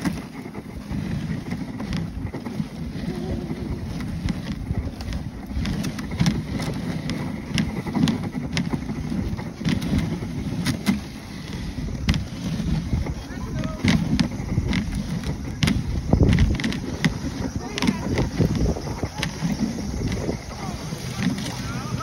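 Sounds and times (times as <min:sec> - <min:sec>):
sled runners rumbling on snow: 0:00.0 - 0:22.0
wind on microphone: 0:00.0 - 0:22.0.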